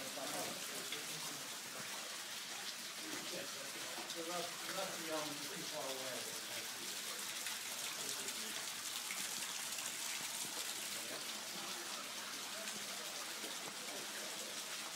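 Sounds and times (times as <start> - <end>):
waterfall splashing into pool: 0.0 - 14.9.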